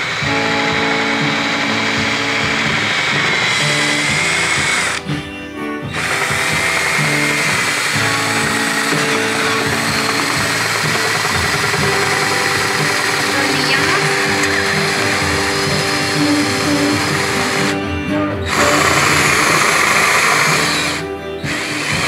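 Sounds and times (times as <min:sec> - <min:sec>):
background music: 0:00.0 - 0:22.0
electric drill boring into wood: 0:00.0 - 0:22.0.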